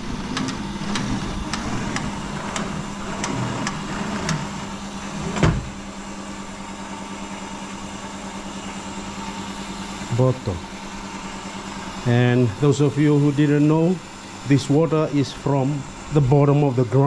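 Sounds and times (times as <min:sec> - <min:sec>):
water pump humming: 0:00.0 - 0:17.0.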